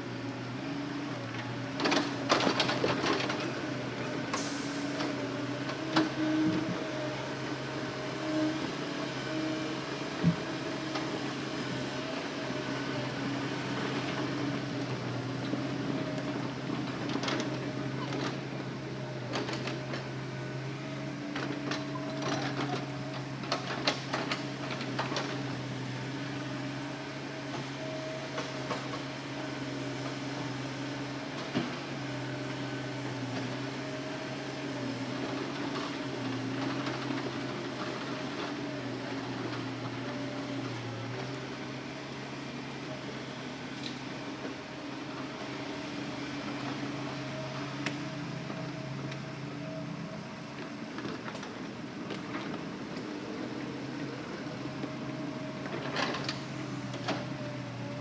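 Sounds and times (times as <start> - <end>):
excavator engine droning: 0.0 - 58.0.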